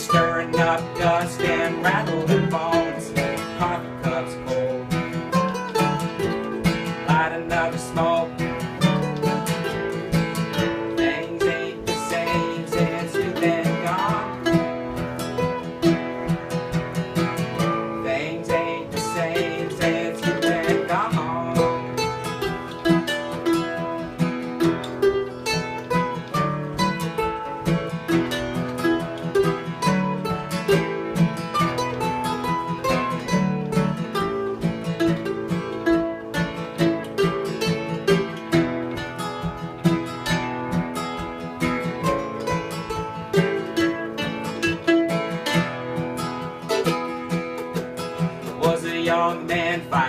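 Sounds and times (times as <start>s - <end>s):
acoustic guitar picking: 0.0s - 50.0s.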